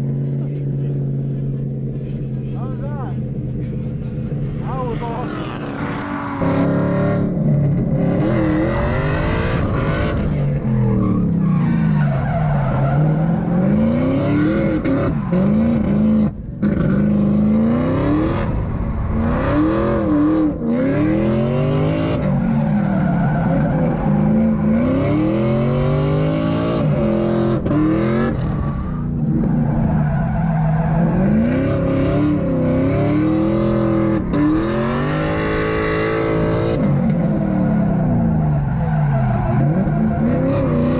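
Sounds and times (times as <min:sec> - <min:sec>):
car engine revving: 0:00.0 - 0:40.9
tyres squealing and skidding: 0:01.0 - 0:07.2, 0:08.2 - 0:16.3, 0:21.1 - 0:40.9.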